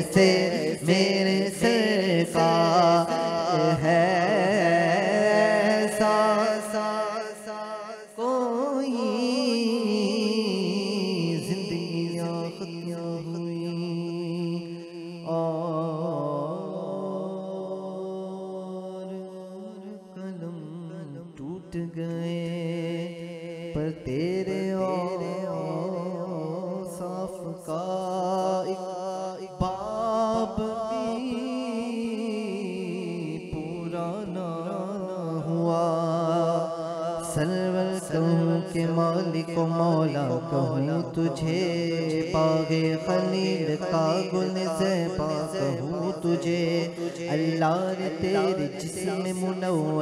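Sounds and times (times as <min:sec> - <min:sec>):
man chanting melodically: 0:00.0 - 0:50.0.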